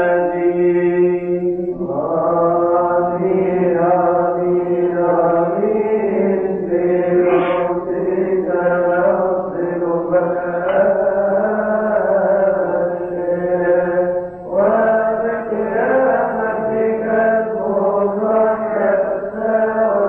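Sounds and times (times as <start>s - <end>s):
man chanting long held notes: 2.8s - 20.0s.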